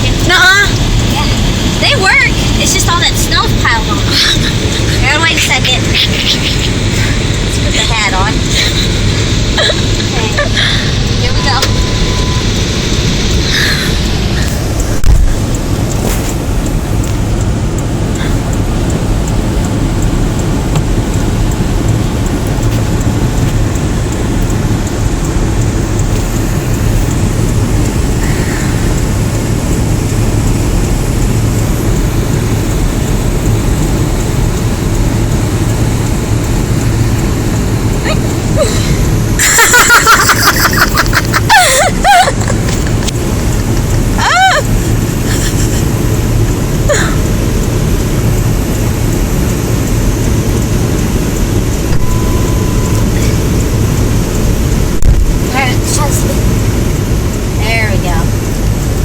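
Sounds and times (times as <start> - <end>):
car engine rumble inside cabin: 0.0 - 59.0.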